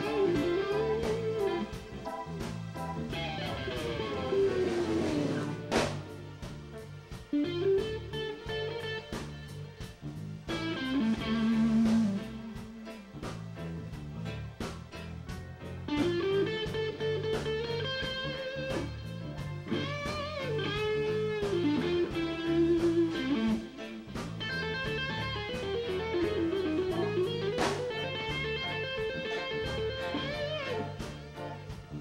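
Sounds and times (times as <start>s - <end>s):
bass line: 0.0s - 32.0s
electric guitar lead: 0.0s - 32.0s
steady drum beat: 0.0s - 32.0s.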